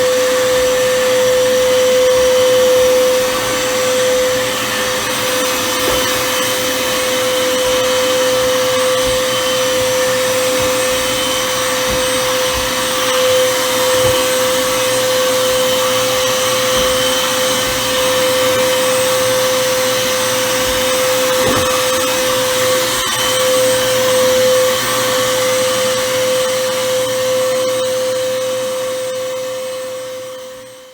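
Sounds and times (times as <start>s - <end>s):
handheld vacuum cleaner running: 0.0s - 30.9s.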